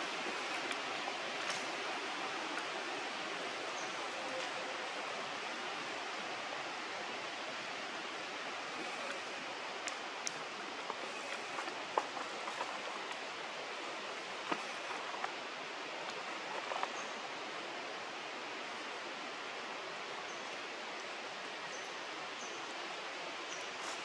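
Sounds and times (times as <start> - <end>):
outdoor ambient hiss: 0.0 - 24.0.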